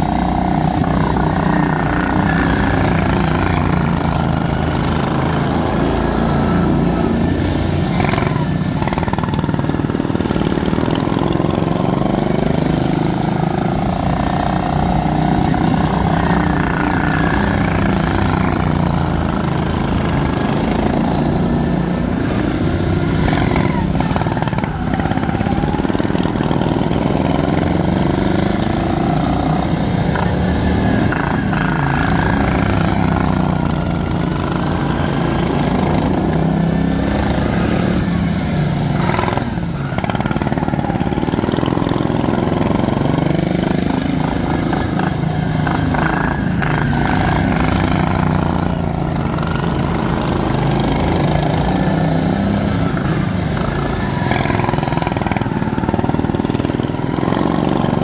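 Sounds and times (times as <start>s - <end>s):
lawn tractor engines racing: 0.0s - 58.0s.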